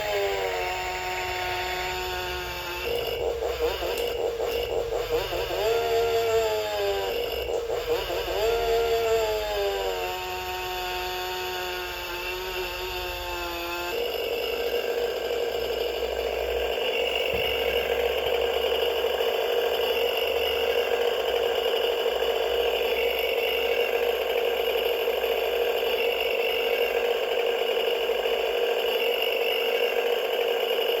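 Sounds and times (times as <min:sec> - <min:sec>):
toy motor whirring: 0:00.0 - 0:31.0.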